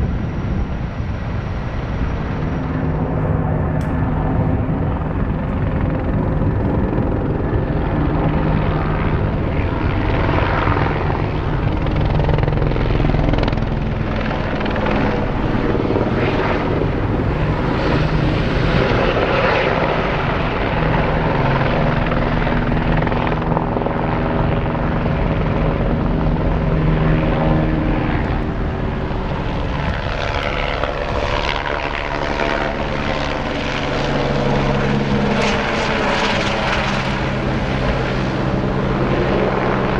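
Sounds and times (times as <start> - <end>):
helicopter rotor beat: 0.0 - 39.9
helicopter turbine: 0.0 - 39.9.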